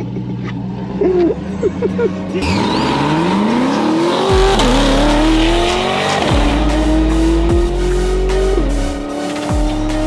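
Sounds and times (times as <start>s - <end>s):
car accelerating hard: 0.4s - 10.0s.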